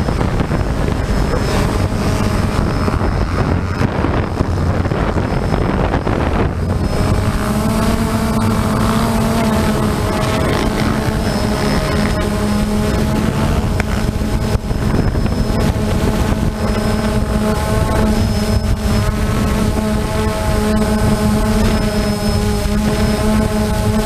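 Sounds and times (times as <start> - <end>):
drone propellers humming: 0.0 - 24.0
faint high whine: 0.0 - 24.0
wind on microphone: 0.0 - 24.0.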